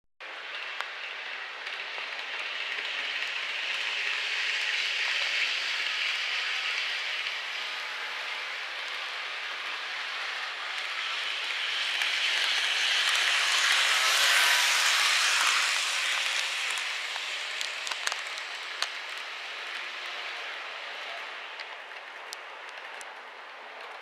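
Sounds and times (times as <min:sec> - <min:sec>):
model train whirring on track: 0:00.2 - 0:24.0.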